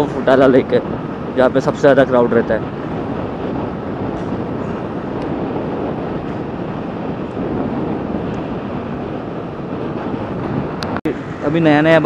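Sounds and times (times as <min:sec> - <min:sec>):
vehicle road noise: 0:00.0 - 0:12.0
wind rushing over microphone: 0:00.0 - 0:12.0.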